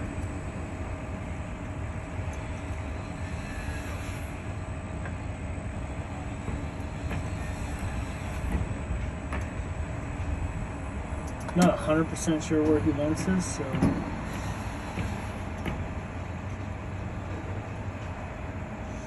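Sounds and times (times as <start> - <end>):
constant hum-like tone: 0.0 - 19.0
construction machinery rumble: 0.0 - 19.0.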